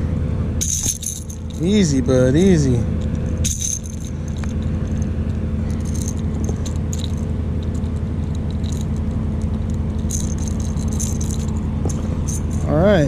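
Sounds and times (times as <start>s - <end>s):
fishing lure rattling: 0.6s - 12.7s.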